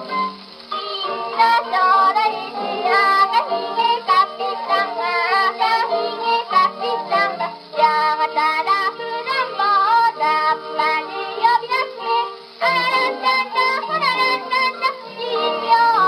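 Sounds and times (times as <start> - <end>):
record surface crackle: 0.0 - 16.0
woman singing on gramophone record: 0.0 - 16.0.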